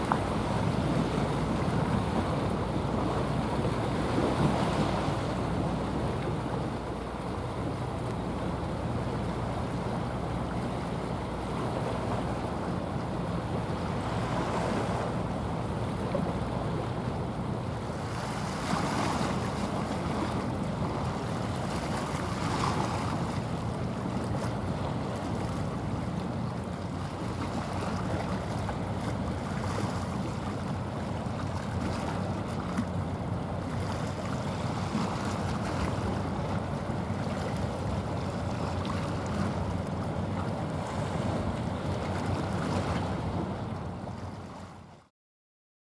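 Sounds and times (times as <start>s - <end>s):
ship engine drone: 0.0s - 44.9s
waves: 0.0s - 45.1s.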